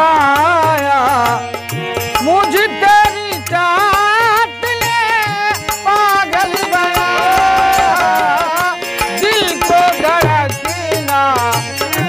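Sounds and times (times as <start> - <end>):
harmonium chords: 0.0 - 12.0
man singing: 0.0 - 12.0
hand drum beating: 0.6 - 12.0.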